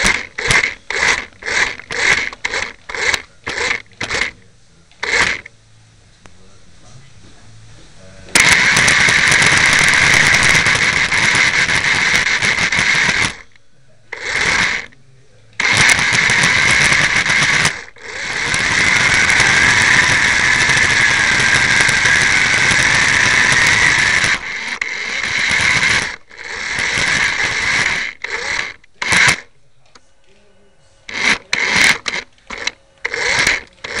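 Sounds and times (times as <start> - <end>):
toy car electric motor whining: 0.0 - 4.4, 5.0 - 5.5, 8.4 - 15.0, 15.6 - 29.5, 31.1 - 34.0.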